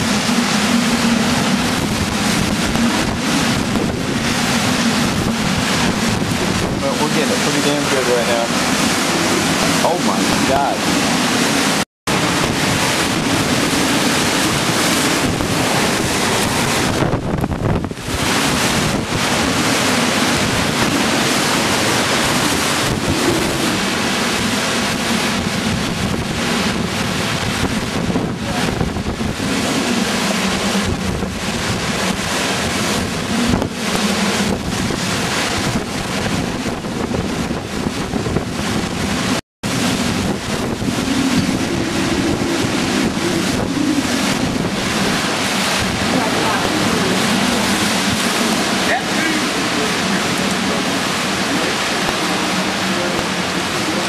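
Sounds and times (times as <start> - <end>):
heavy driving rain: 0.0 - 54.0
hurricane wind: 0.0 - 54.0
wind buffeting microphone: 0.0 - 54.0.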